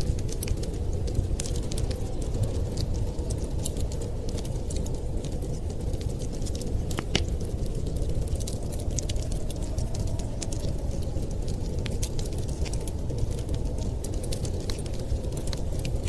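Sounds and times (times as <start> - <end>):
low fire rumble: 0.0 - 16.0
wood fire pops and snaps: 0.0 - 16.0.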